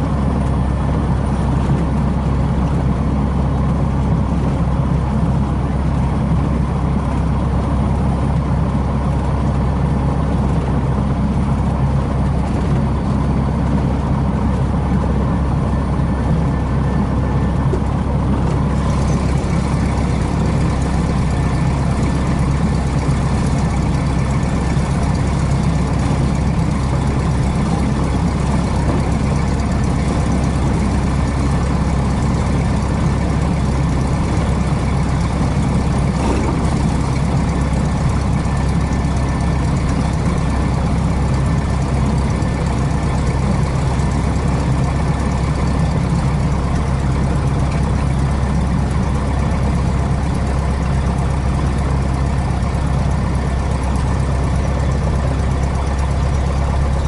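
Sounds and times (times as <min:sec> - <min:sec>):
airplane engine drone in cabin: 0:00.0 - 0:57.0.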